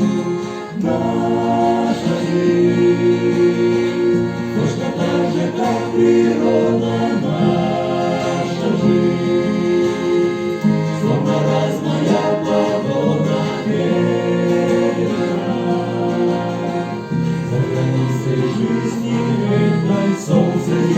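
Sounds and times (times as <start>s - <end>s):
choir singing sustained chords: 0.0s - 20.9s
instrumental backing: 0.0s - 20.9s.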